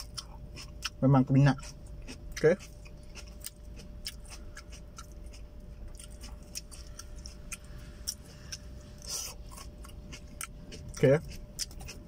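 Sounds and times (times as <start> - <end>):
crunchy vegetable chewing: 0.0 - 12.0.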